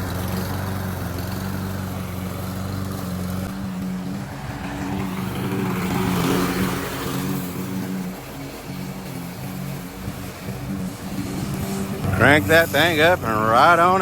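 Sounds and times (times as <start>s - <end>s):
lawn mower engine humming: 0.0s - 14.0s.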